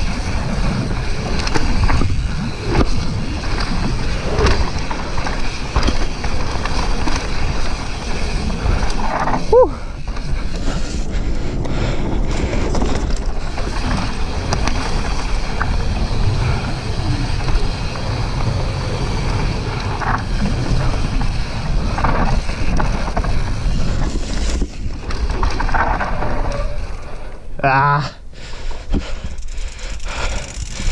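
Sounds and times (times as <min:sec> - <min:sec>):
tyres rolling over dirt: 0:00.0 - 0:27.6
bike rattling over bumps: 0:00.0 - 0:30.9.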